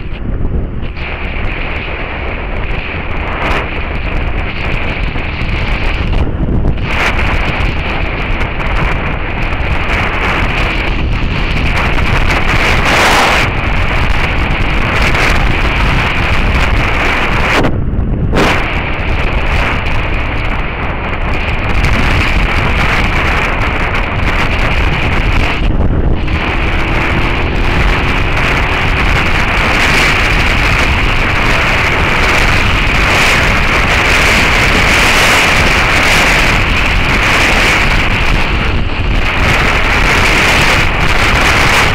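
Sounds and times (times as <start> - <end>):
motorcycle engine: 0.0 - 41.9
wind rush on microphone: 0.0 - 41.9.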